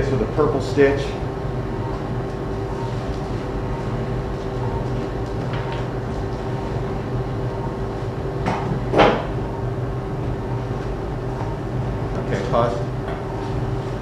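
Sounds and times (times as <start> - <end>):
equipment hum and hiss: 0.0 - 14.0.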